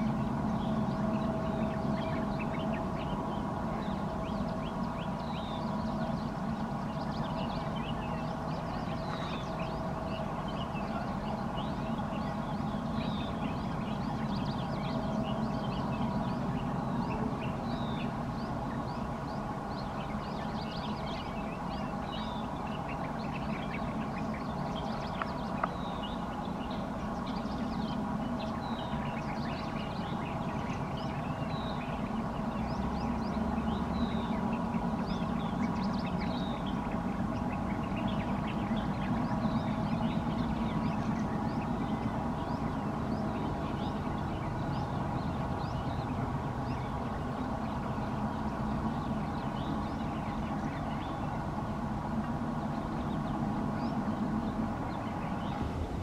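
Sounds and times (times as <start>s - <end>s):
birds chirping: 0.0s - 56.0s
distant diesel locomotive drone: 0.0s - 56.0s.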